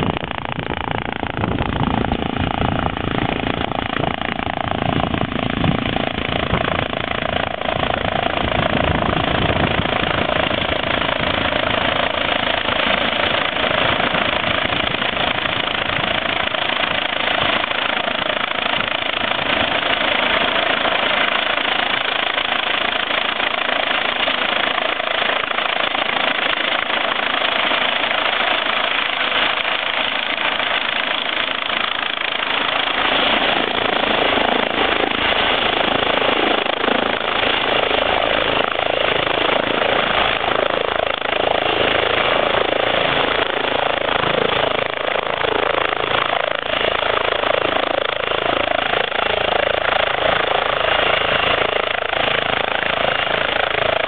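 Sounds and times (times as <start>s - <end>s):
helicopter landing: 0.0s - 54.0s.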